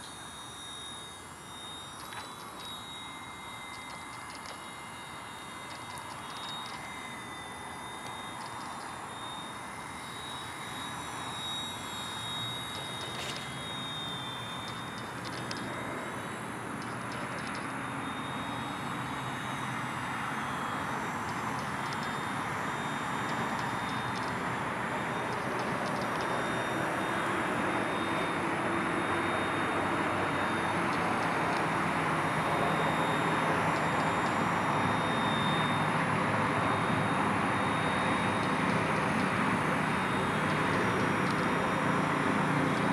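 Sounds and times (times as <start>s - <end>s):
high electric motor whine: 0.0s - 42.9s
rotor blades whirring: 0.0s - 42.9s.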